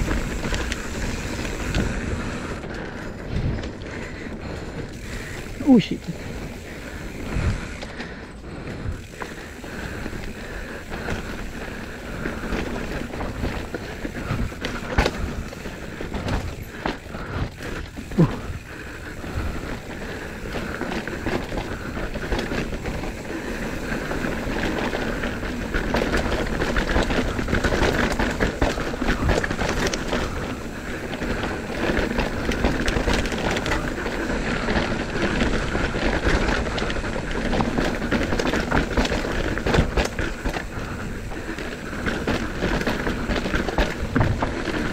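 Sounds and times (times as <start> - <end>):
bike rattling clicks and knocks: 0.0 - 44.9
bike tyre rolling noise: 0.0 - 44.9.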